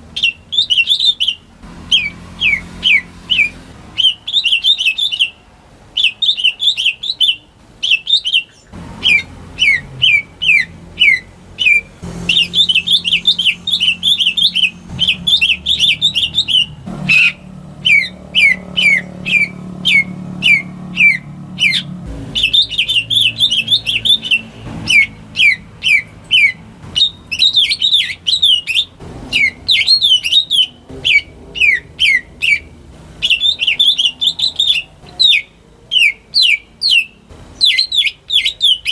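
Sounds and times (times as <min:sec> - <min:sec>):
bird singing whistled notes: 0:00.1 - 0:05.4, 0:06.0 - 0:38.9.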